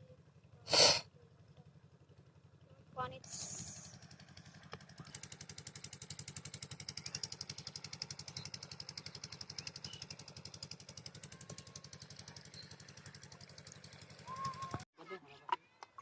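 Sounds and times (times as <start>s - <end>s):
diesel engine chugging: 0.0s - 14.9s.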